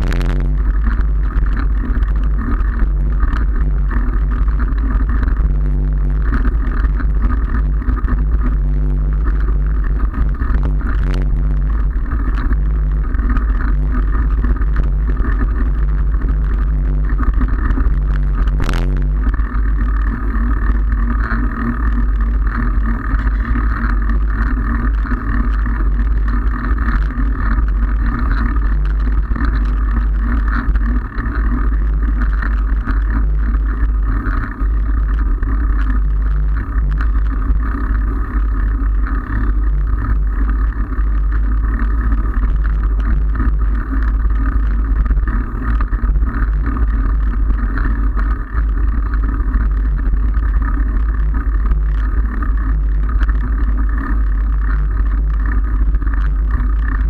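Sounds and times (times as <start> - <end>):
tyre and road noise: 0.0 - 57.0.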